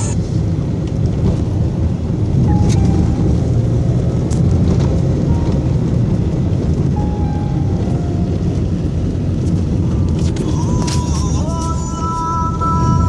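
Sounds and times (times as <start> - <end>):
vehicle rumble inside cabin: 0.0 - 13.0.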